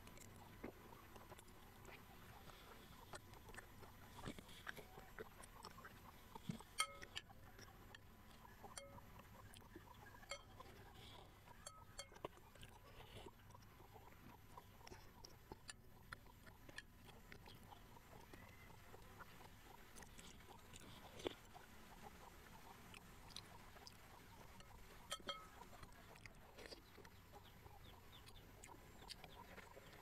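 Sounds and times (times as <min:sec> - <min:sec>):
soft chewing: 0:00.0 - 0:30.0.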